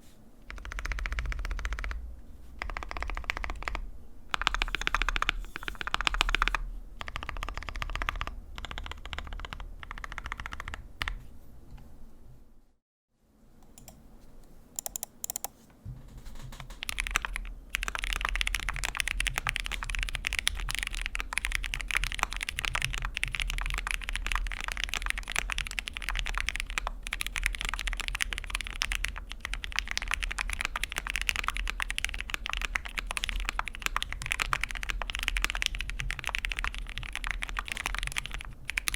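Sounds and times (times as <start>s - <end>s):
typing on mechanical keyboard: 0.5s - 2.0s, 2.6s - 11.2s, 14.8s - 15.5s, 16.2s - 38.9s.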